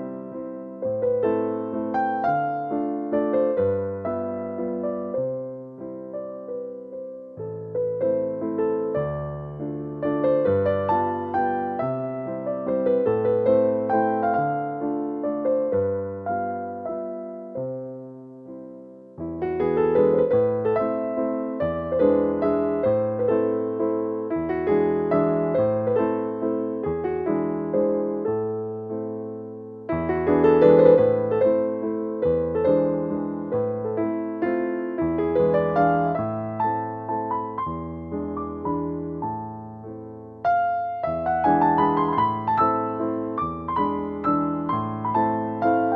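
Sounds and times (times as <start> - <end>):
soft solo piano: 0.0 - 45.9.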